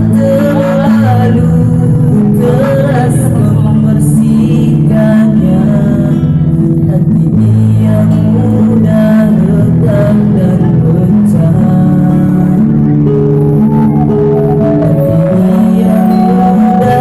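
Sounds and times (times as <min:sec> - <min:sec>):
vocal group singing: 0:00.0 - 0:14.0, 0:14.6 - 0:17.0.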